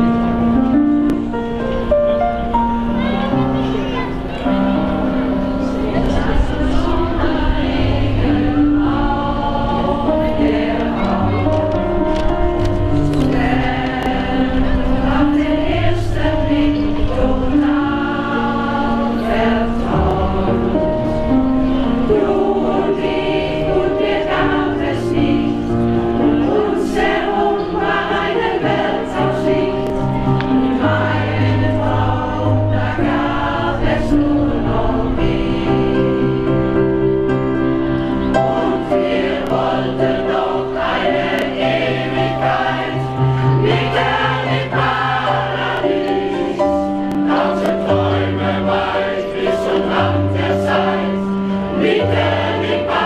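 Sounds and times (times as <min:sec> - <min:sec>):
vocal group singing in harmony: 0:04.6 - 0:53.0.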